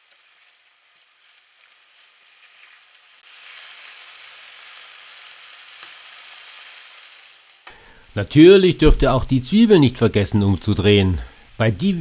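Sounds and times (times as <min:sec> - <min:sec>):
tomato slices sizzling in oil: 0:00.0 - 0:12.0.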